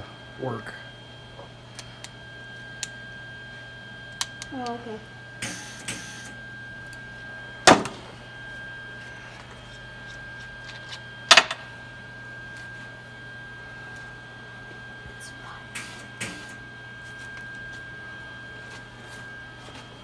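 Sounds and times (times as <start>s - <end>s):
electrical hum with high whine: 0.0s - 20.0s.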